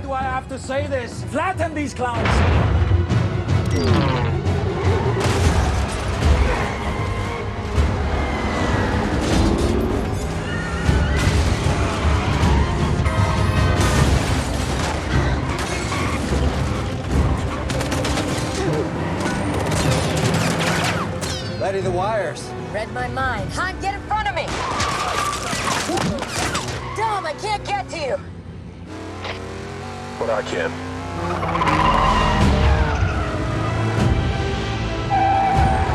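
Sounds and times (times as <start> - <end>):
dramatic score music: 0.0 - 29.6, 30.8 - 35.9.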